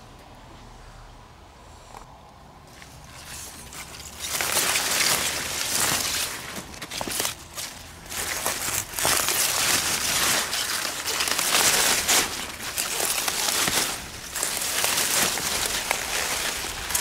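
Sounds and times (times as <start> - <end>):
leaves rustling and crackling: 2.6 - 17.0.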